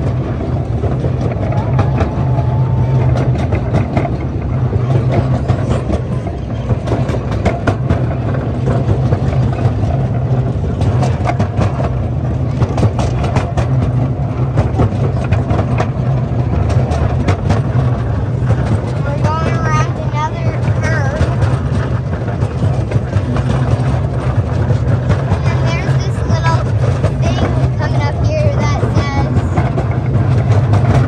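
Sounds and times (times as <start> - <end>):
miniature train rumbling: 0.0 - 31.0
wheels clacking on rails: 0.0 - 31.0.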